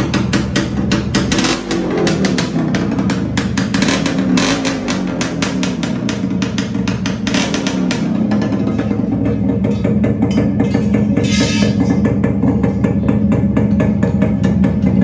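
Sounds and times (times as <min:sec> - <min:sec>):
exhaust crackle: 0:00.0 - 0:15.0
two-stroke motorcycle engine revving: 0:00.0 - 0:15.0.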